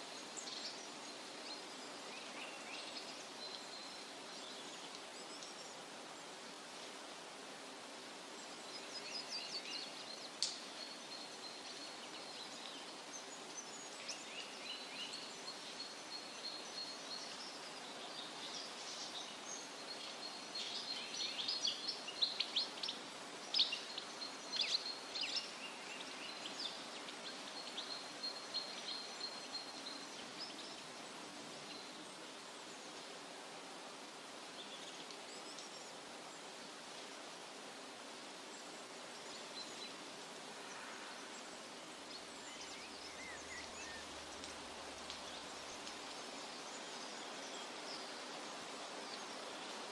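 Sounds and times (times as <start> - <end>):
steady background hiss: 0.0 - 49.9.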